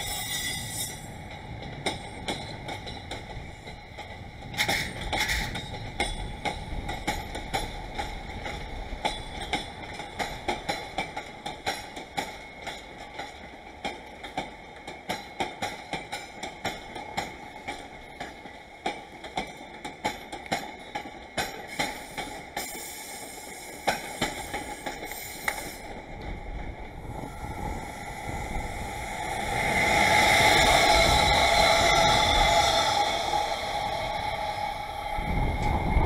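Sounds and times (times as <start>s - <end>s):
train wheels clicking over rail joints: 0.0s - 34.6s
low train rumble: 0.0s - 36.0s.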